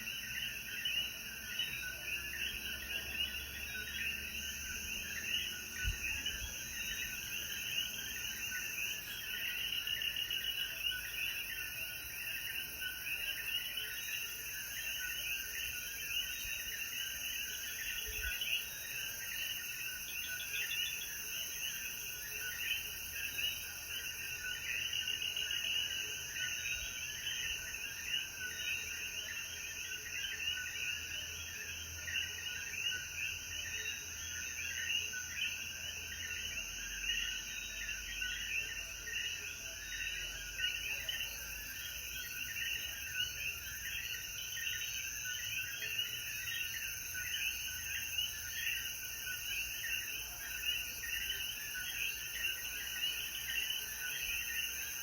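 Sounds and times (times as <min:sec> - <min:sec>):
frogs chirping: 0:00.0 - 0:55.0.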